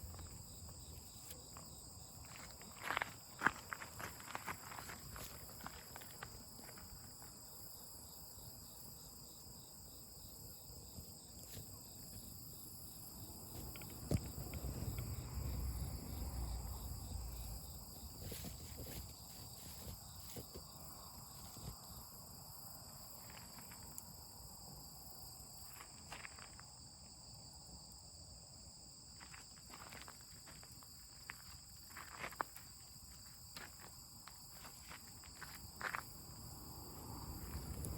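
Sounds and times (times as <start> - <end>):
insects chirring: 0.0 - 37.9.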